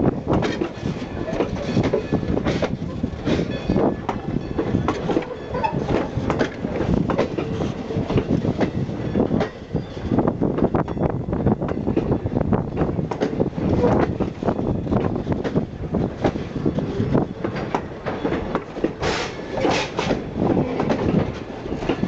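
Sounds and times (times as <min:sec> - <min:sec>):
train wheels clacking on rail joints: 0:00.0 - 0:22.0.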